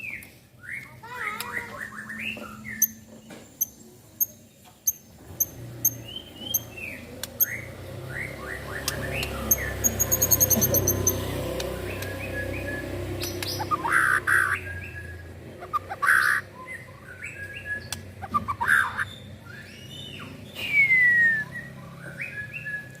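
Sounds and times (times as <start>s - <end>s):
bird singing varied song: 0.0s - 23.0s.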